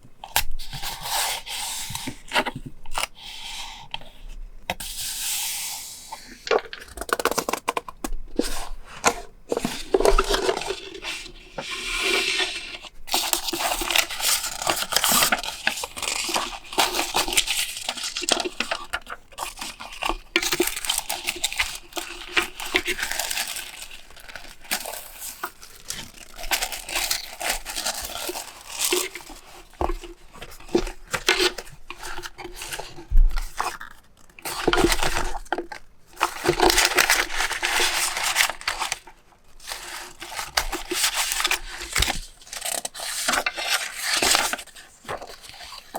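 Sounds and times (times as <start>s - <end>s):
paper rustling and tearing: 6.3s - 45.9s.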